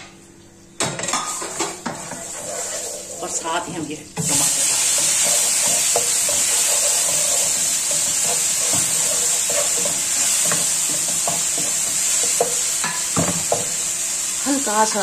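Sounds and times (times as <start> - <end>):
wooden spoon scraping a pan: 1.2 - 13.8
tomatoes sizzling in hot oil: 1.2 - 15.0.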